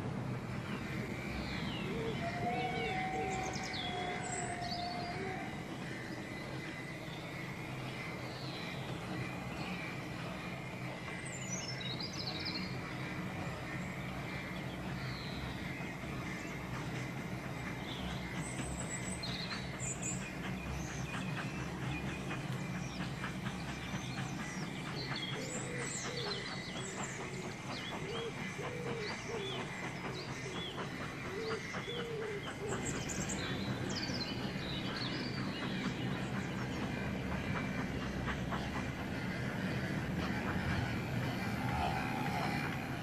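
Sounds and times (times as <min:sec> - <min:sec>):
songbirds chirping: 0:00.0 - 0:43.0
steady low hum: 0:00.0 - 0:43.0.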